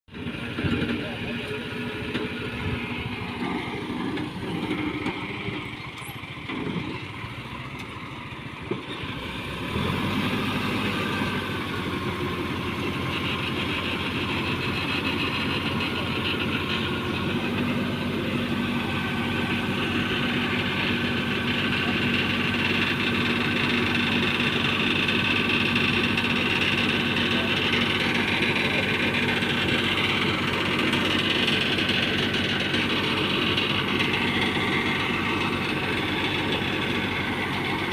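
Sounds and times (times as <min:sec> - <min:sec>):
tractor diesel engine running: 0:00.1 - 0:37.9.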